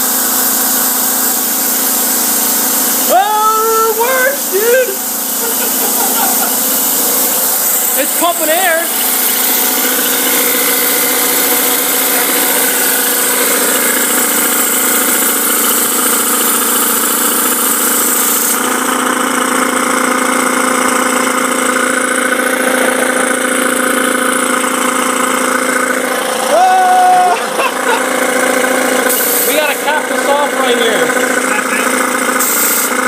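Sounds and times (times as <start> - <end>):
air compressor hum: 0.0 - 33.0.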